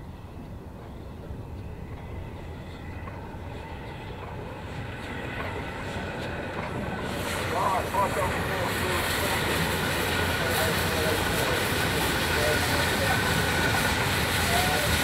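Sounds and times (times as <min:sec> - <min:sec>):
steam train rumble: 0:00.0 - 0:15.0.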